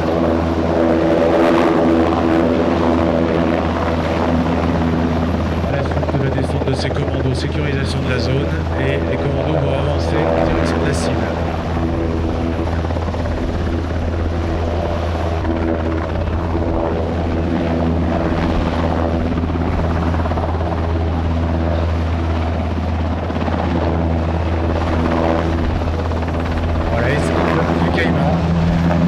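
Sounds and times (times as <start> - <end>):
helicopter hovering: 0.0 - 29.0.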